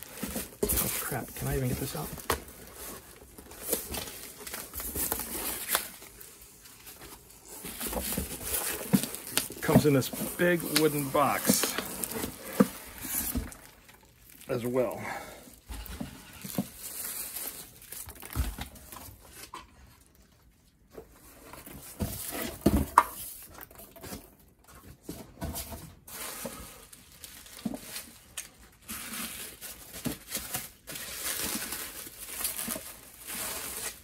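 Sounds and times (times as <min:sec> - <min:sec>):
bubble wrap crinkling: 0:00.0 - 0:20.3, 0:26.1 - 0:34.0.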